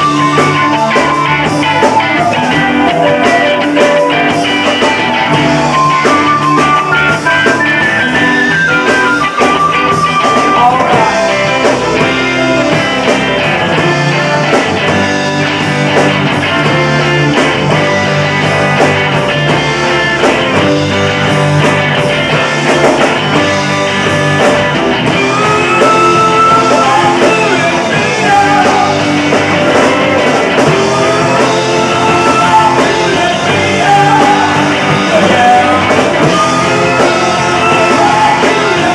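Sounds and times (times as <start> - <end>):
bass guitar: 0.0 - 38.9
drums: 0.0 - 38.9
electric guitar: 0.0 - 38.9
keyboards: 0.0 - 38.9.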